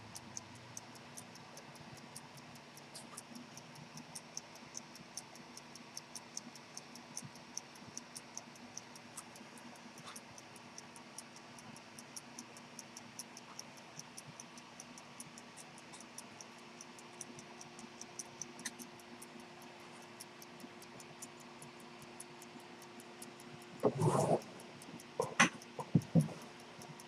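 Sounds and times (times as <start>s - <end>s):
pocket watch ticking: 0.0s - 27.0s.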